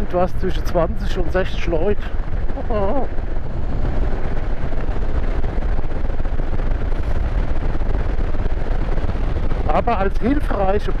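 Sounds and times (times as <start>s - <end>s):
motorcycle riding rumble: 0.0s - 11.0s
wind buffeting microphone: 0.0s - 11.0s.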